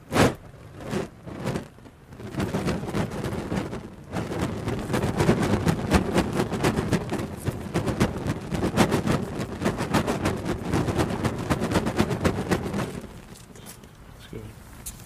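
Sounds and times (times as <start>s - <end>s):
blowtorch flame roaring: 0.0s - 15.0s
crackling pops: 0.0s - 15.0s.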